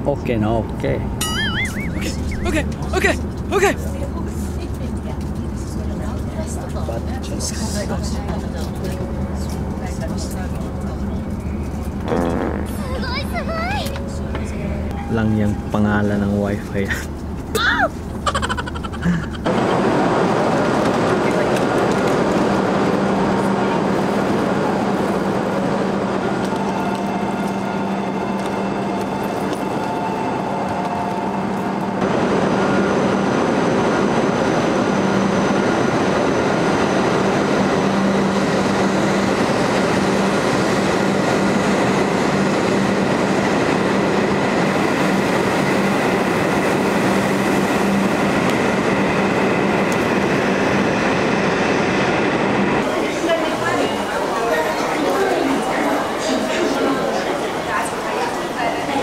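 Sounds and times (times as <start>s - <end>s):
train electric hum and whine: 0.0s - 59.0s
train rushing past: 0.9s - 17.4s, 18.0s - 59.0s.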